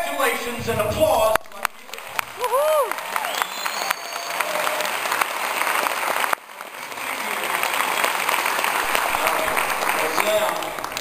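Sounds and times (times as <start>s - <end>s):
audience applauding: 1.3s - 11.0s.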